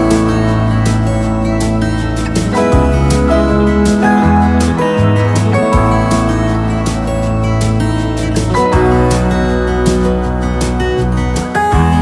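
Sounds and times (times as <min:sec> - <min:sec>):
guitar-led background music: 0:00.0 - 0:12.0.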